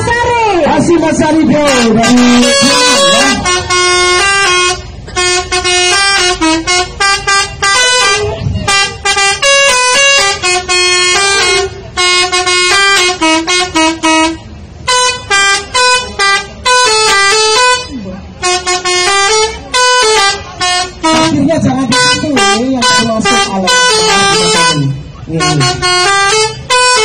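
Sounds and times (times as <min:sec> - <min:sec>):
multi-tone air horn melody: 0:01.1 - 0:27.0.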